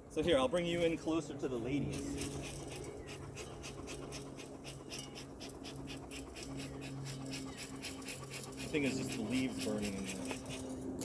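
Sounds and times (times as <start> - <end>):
honeybees buzzing: 0.6 - 11.0.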